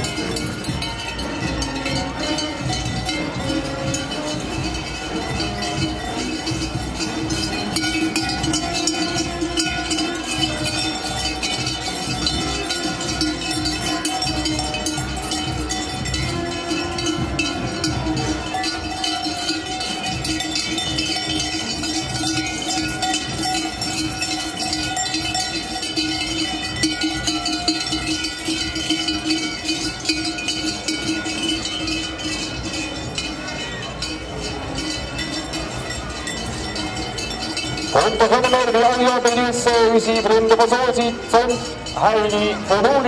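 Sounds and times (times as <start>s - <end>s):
cowbells clanging: 0.0s - 43.0s.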